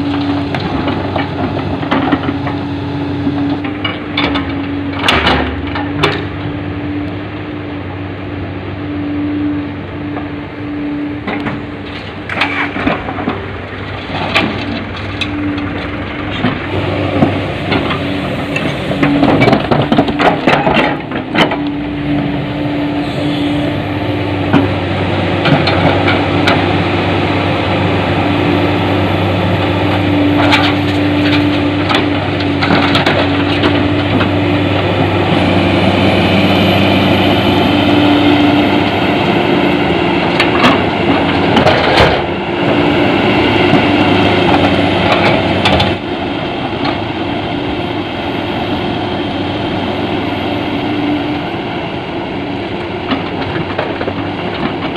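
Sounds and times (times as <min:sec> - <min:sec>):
diesel excavator engine running: 0:00.0 - 0:54.9.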